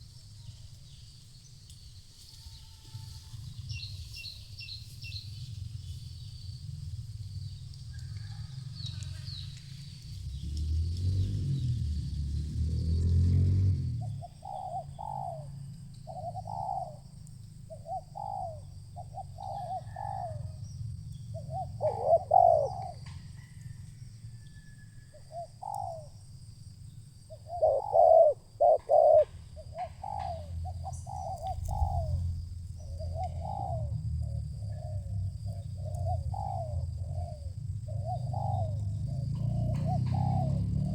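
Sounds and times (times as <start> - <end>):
low steady rumble: 0.0 - 40.9
doves cooing: 6.6 - 26.3, 27.0 - 40.9.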